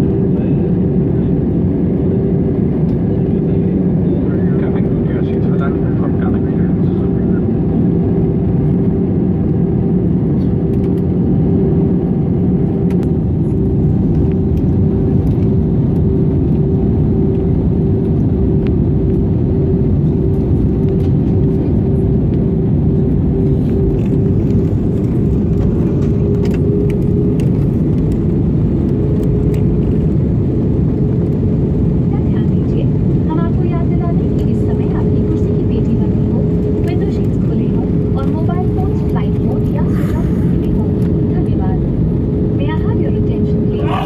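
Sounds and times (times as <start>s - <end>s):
jet engine cabin rumble: 0.0s - 44.0s.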